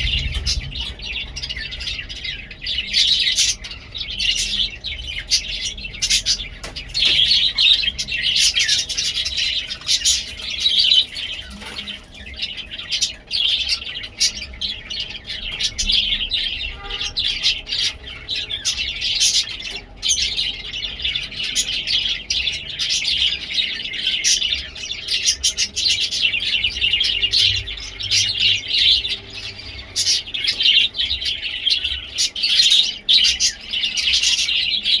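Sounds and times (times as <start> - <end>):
budgerigars chattering and chirping: 0.0 - 35.0.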